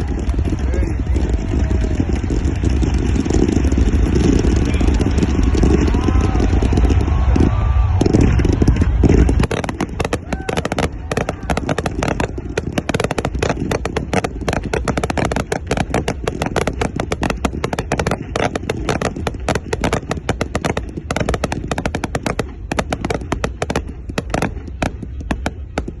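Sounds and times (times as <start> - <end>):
fireworks crackling: 0.0 - 26.0
low rumble: 0.0 - 26.0.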